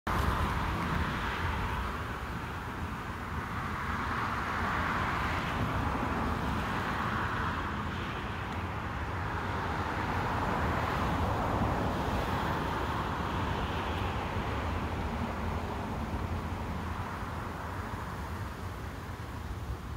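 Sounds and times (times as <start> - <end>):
distant road traffic hiss: 0.1 - 19.9
wind rumble on microphone: 0.1 - 19.9.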